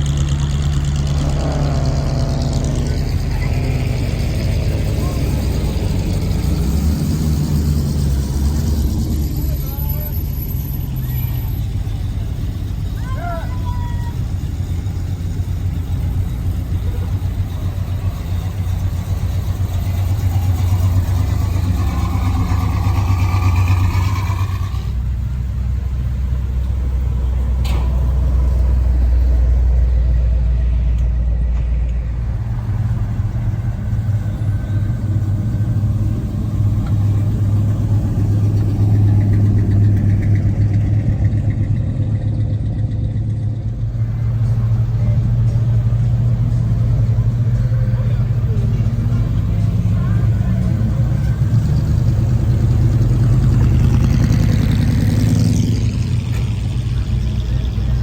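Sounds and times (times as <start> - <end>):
car engines idling: 0.0 - 58.0.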